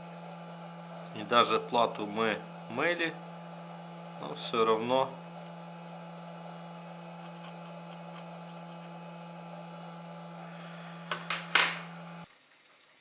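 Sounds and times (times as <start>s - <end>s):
electrical hum: 0.0s - 12.3s.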